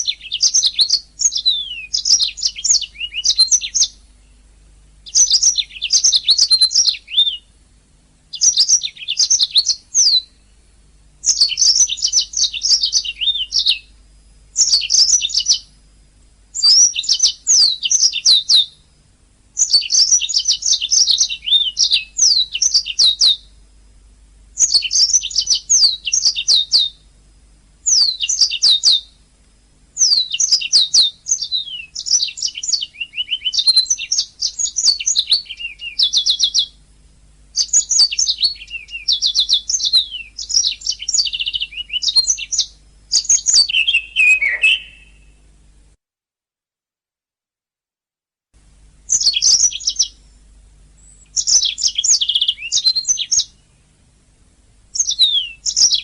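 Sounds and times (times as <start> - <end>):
canary singing: 0.0 - 7.6, 8.3 - 15.8, 16.5 - 18.9, 19.6 - 23.6, 24.6 - 27.0, 27.8 - 29.2, 30.0 - 36.8, 37.6 - 45.4, 49.1 - 53.9, 54.9 - 56.0.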